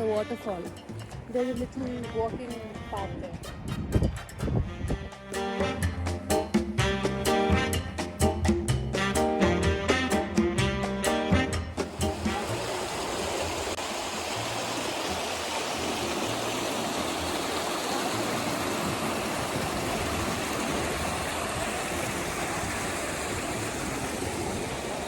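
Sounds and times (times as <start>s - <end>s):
stream water rushing: 0.0s - 4.6s, 5.2s - 25.0s.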